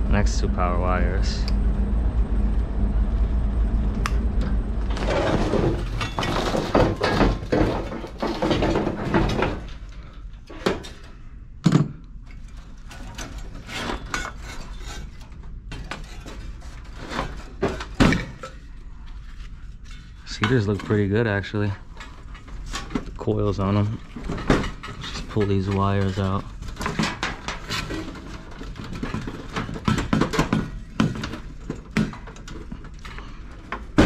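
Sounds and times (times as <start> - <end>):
metal clattering and scraping: 4.5 - 11.3, 12.2 - 34.0.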